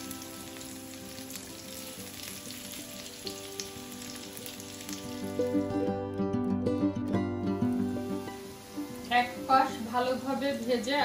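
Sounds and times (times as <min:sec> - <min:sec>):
food sizzling in oil: 0:00.0 - 0:06.0, 0:07.4 - 0:11.0
soft background music: 0:00.0 - 0:11.0.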